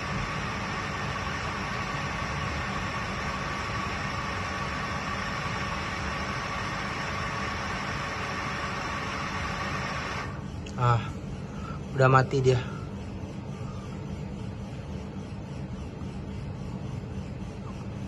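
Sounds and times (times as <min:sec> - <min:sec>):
electric water pump humming: 0:00.0 - 0:18.0.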